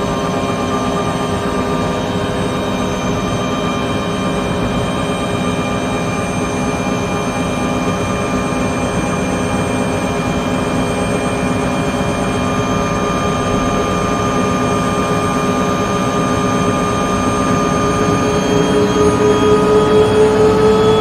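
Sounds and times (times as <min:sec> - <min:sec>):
helicopter turbine and rotor: 0:00.0 - 0:21.0.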